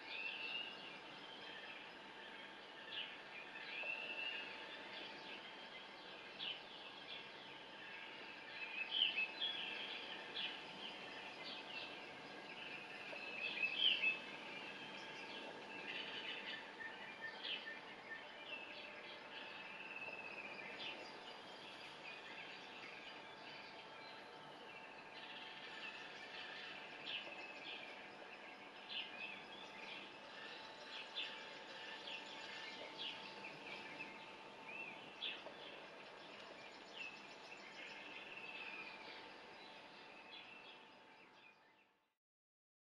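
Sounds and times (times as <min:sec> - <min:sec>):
faint steady hum: 0:00.0 - 0:42.1
birds chirping and calling: 0:02.5 - 0:41.3.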